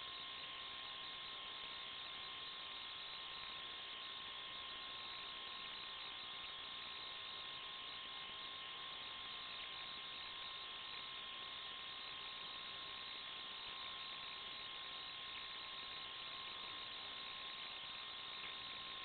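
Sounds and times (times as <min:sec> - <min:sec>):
static hiss with high hum: 0:00.0 - 0:19.0.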